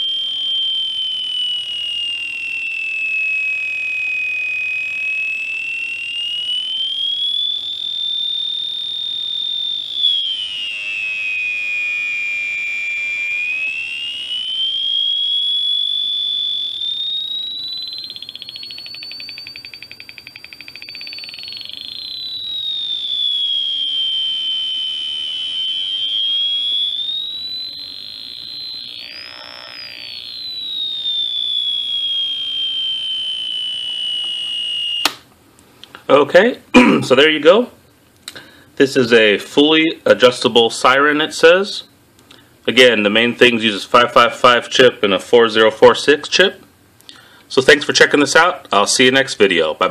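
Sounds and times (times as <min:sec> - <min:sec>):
electronic siren tone: 0:00.0 - 0:35.3, 0:38.4 - 0:49.9.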